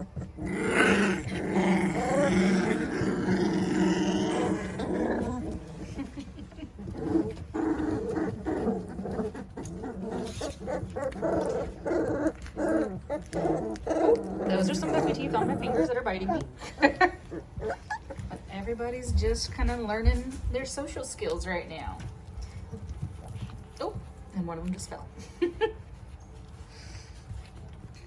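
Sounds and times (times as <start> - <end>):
puppies play-growling: 0.0 - 24.4, 25.2 - 28.0.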